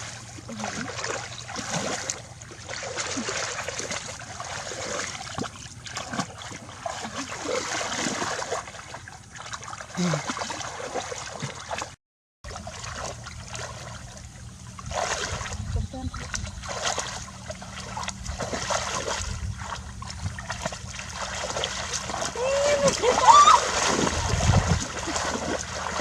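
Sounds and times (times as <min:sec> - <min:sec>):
shallow water splashing by hand: 0:00.0 - 0:26.0.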